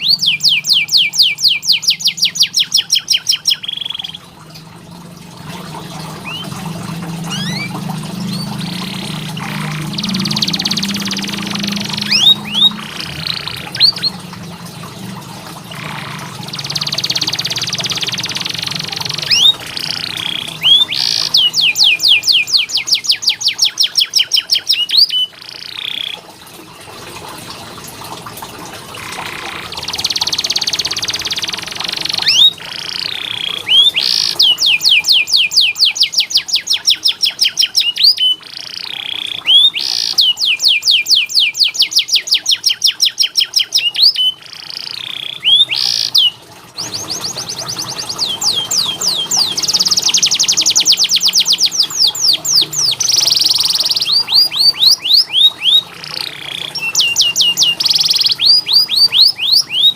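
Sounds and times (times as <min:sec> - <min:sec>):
canary singing trills: 0:00.0 - 0:04.3, 0:05.9 - 0:14.5, 0:15.7 - 0:26.2, 0:29.0 - 0:59.9.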